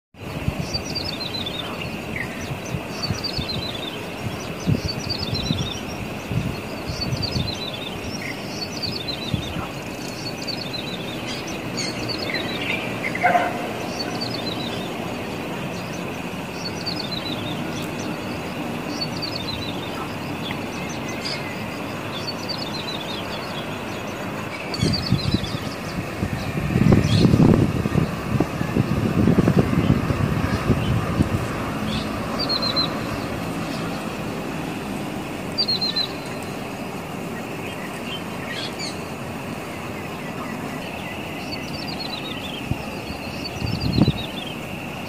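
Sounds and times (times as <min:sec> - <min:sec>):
bird singing descending phrases: 0:00.2 - 0:45.0.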